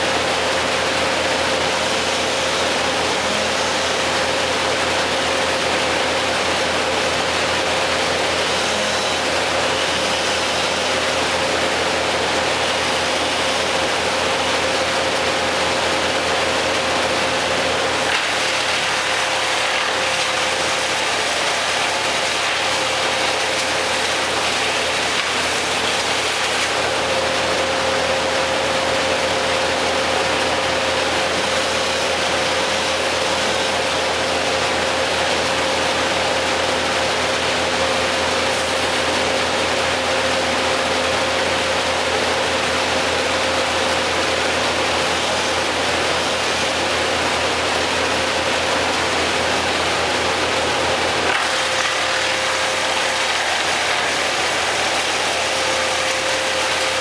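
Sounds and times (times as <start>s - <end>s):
machine engine humming and rattling: 0.0s - 57.0s.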